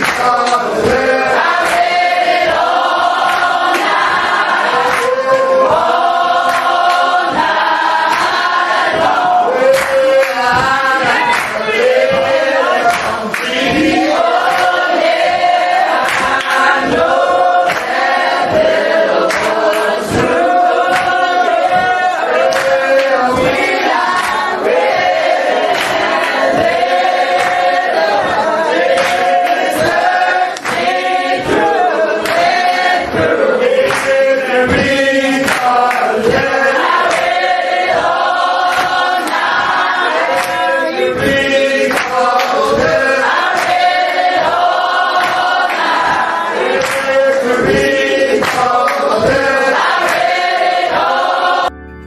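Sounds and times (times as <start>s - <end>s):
sharp rhythmic strokes: 0.0s - 51.7s
congregation singing: 0.0s - 52.0s.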